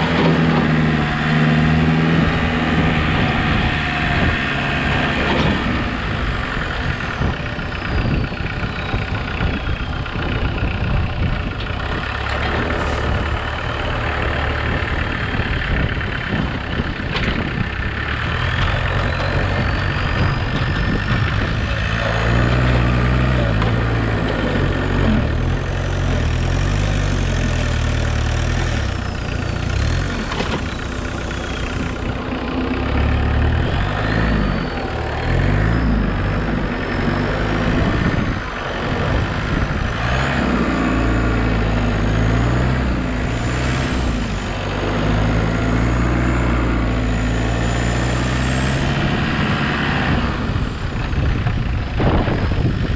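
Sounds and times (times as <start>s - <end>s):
loader hydraulic whine: 0.0s - 52.9s
tractor engine running: 0.0s - 52.9s.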